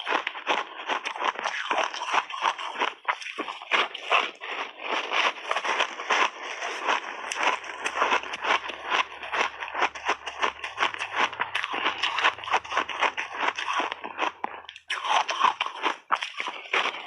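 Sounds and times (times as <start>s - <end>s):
crunching and chewing ice: 0.0s - 17.0s.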